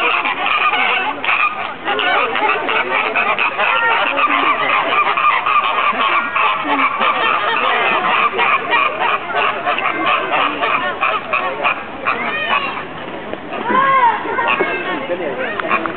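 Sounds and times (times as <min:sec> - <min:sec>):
flamingos honking: 0:00.0 - 0:15.9.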